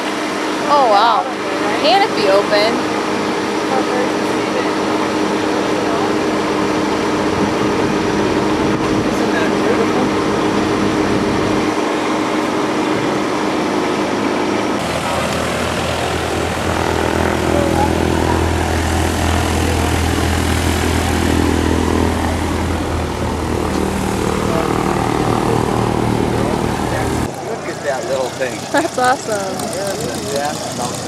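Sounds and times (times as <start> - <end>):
propeller aircraft engine running: 0.0 - 31.0.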